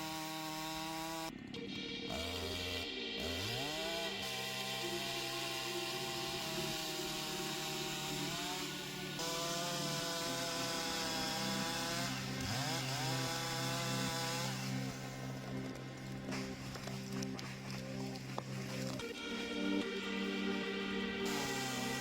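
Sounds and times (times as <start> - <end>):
chainsaw cutting wood: 0.0 - 1.3, 2.1 - 19.0, 21.2 - 22.0.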